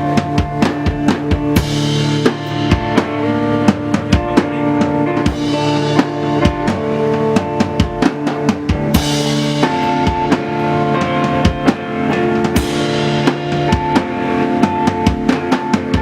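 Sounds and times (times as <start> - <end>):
bass guitar: 0.0 - 16.0
drum kit kick and snare: 0.0 - 16.0
sustained guitar: 0.0 - 16.0.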